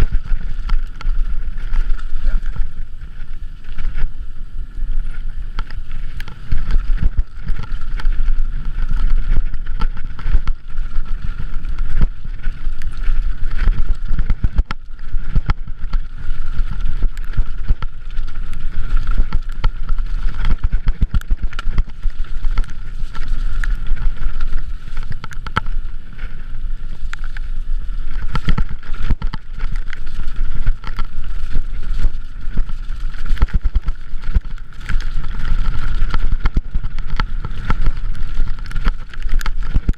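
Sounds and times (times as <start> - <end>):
mountain bike rattling over rocks: 0.0 - 39.9.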